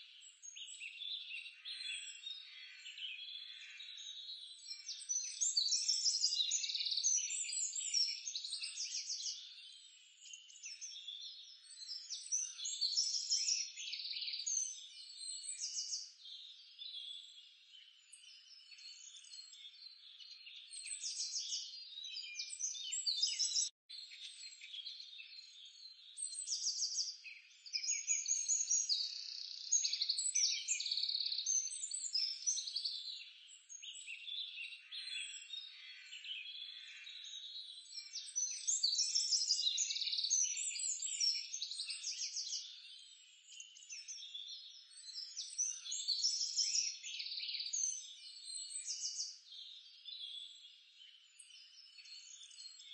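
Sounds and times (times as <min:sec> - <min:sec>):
birds chirping and trilling: 0:00.1 - 0:52.9.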